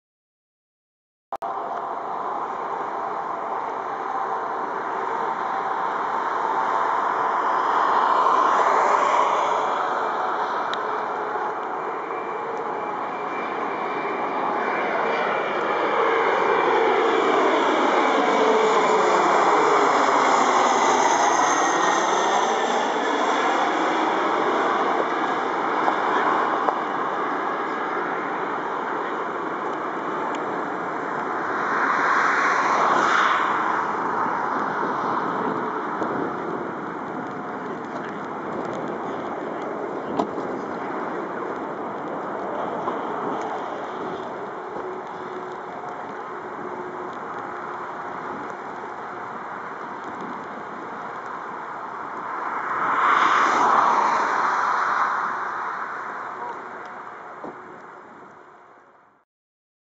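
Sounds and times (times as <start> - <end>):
jet engine rushing noise: 1.5 - 57.6.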